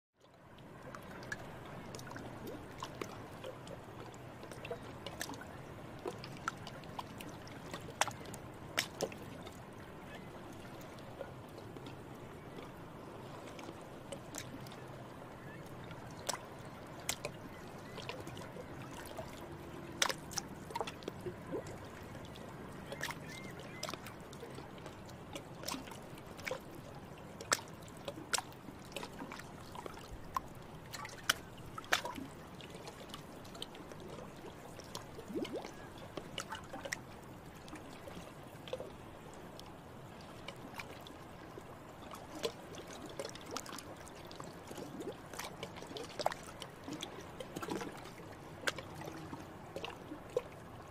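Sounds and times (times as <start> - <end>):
trickling water: 0.2 - 50.9.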